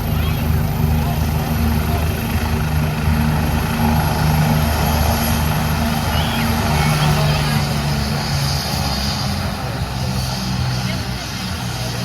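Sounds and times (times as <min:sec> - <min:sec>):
helicopter engine noise: 0:00.0 - 0:12.0
helicopter rotor chopping: 0:00.0 - 0:12.0.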